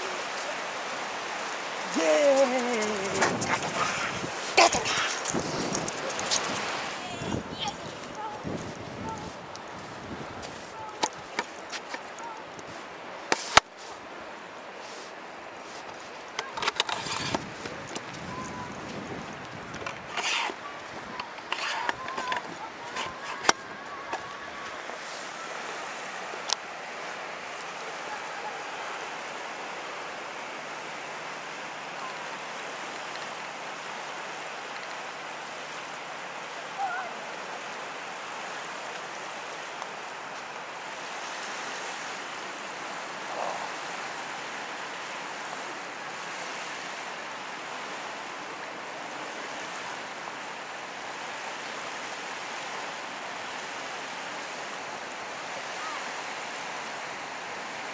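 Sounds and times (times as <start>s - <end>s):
waves washing onto sandy shore: 0.0s - 57.9s.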